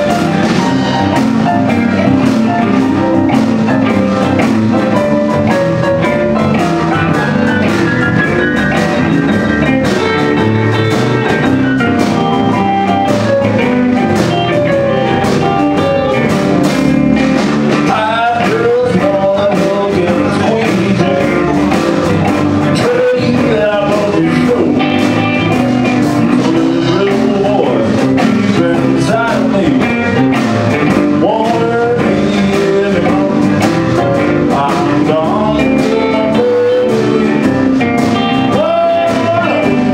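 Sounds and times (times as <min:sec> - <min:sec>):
blues band playing: 0:00.0 - 0:39.9.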